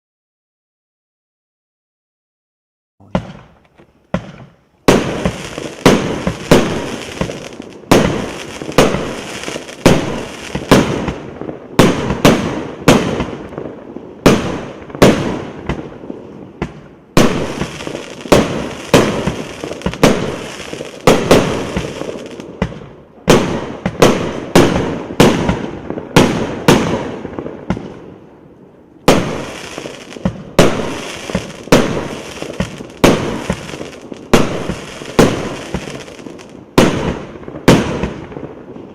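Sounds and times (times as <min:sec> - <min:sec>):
firework bangs: 0:03.0 - 0:28.1, 0:29.0 - 0:38.9.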